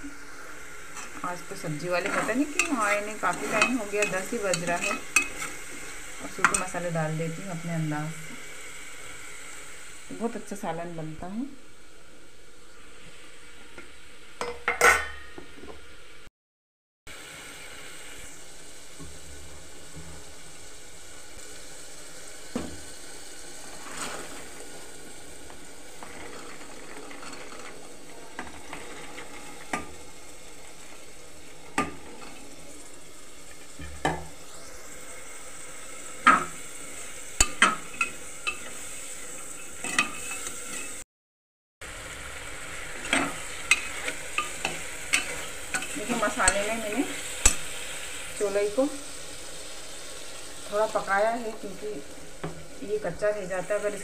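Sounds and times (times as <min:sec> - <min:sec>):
food sizzling in pressure cooker: 0:00.0 - 0:16.3, 0:17.1 - 0:41.0, 0:41.8 - 0:54.0.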